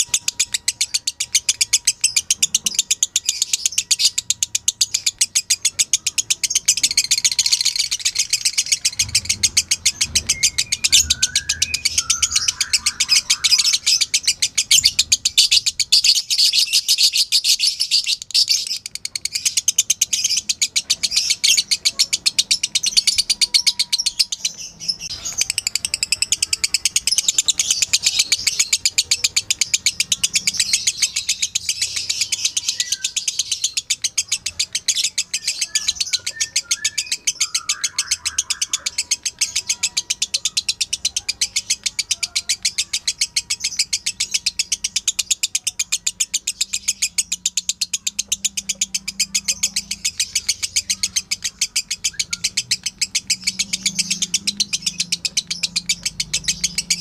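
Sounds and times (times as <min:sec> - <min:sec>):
bird chattering trill: 0:00.0 - 0:57.0.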